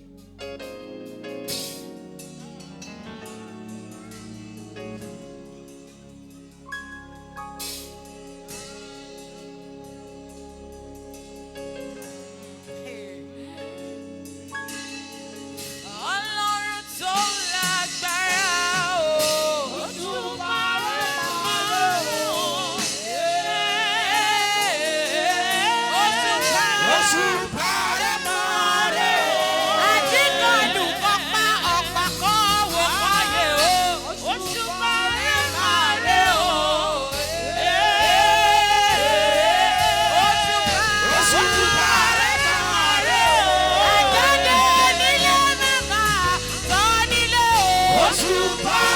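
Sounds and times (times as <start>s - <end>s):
held instrumental chords: 0.0s - 48.9s
person singing gospel with vibrato: 7.6s - 48.9s.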